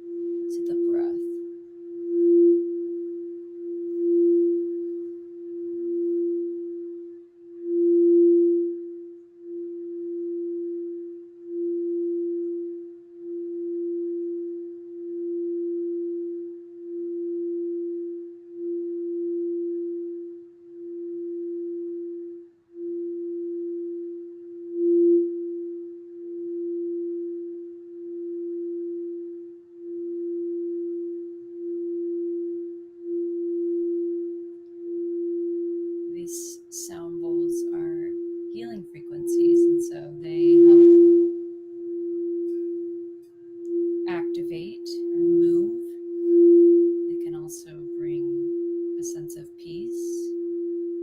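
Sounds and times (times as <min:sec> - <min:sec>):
singing bowl tone: 0:00.0 - 0:51.0.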